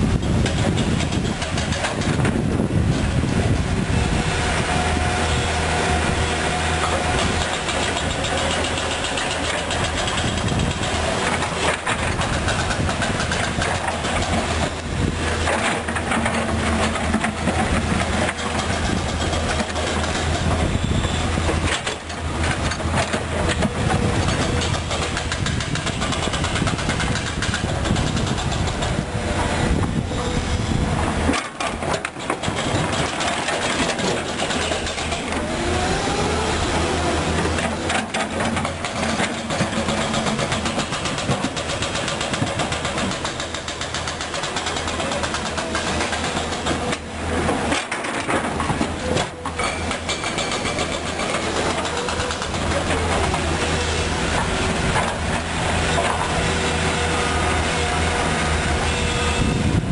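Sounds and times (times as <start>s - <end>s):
dump truck idling: 0.0s - 59.9s
excavator diesel engine running: 0.0s - 59.9s.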